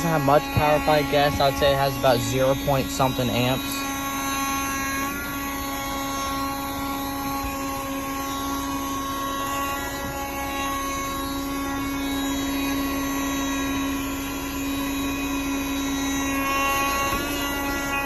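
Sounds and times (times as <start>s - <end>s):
handheld vacuum motor whining: 0.0s - 18.0s.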